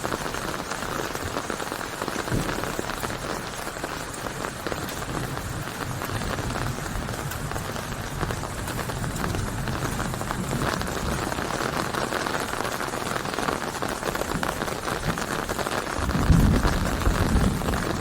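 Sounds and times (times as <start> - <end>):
heavy rain patter: 0.0 - 18.0.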